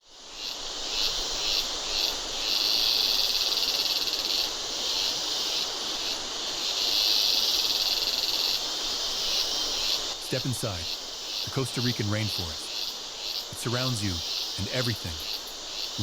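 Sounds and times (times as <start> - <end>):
high buzzing insect calls: 0.0 - 16.0
soft forest background hiss: 0.0 - 16.0.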